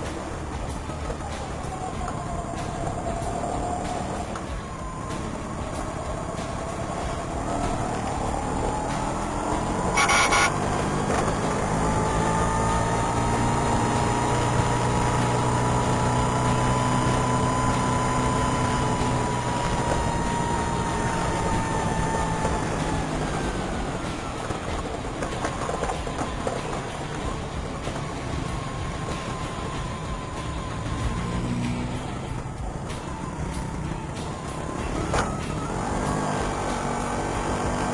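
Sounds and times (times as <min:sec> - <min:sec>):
siren-like whine: 0:01.1 - 0:10.6, 0:11.8 - 0:37.3.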